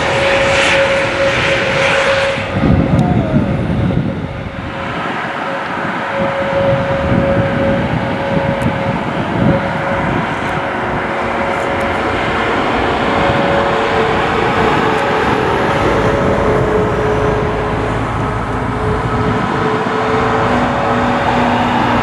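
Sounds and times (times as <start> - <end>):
jet engine rumble and whine: 0.0 - 22.0.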